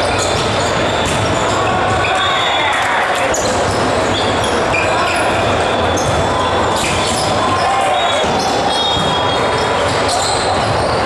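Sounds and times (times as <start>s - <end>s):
voices calling out in a hall: 0.0s - 11.0s.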